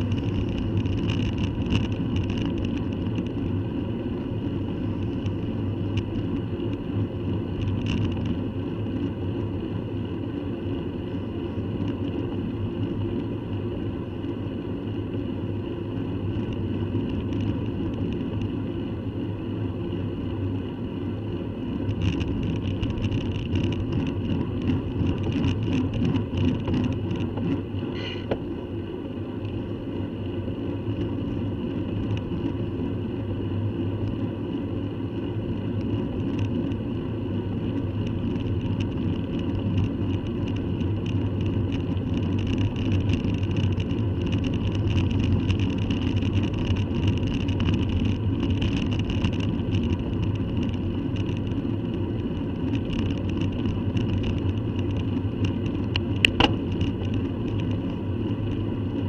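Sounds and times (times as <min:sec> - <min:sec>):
bicycle clicks and rattles: 0:00.0 - 0:13.4, 0:15.9 - 0:19.3, 0:19.9 - 0:28.3, 0:29.4 - 0:32.9, 0:33.6 - 0:59.0
bicycle tyre rumble on tarmac: 0:00.0 - 0:59.0
wind: 0:00.0 - 0:59.0.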